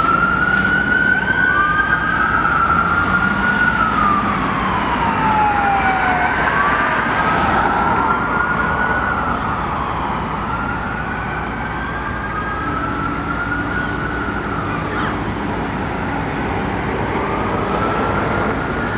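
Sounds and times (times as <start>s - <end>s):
emergency sirens wailing: 0.0s - 18.9s
traffic noise: 0.0s - 18.9s.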